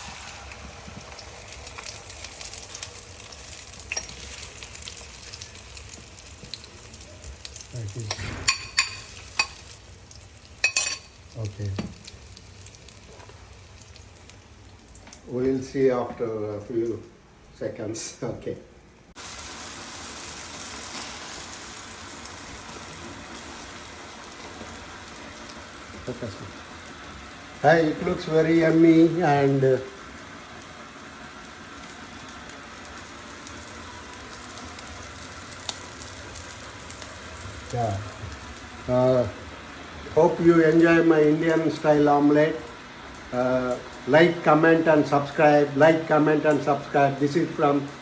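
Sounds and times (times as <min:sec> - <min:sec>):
egg mixture sizzling in a pan: 0:00.0 - 0:15.8, 0:19.1 - 0:48.0.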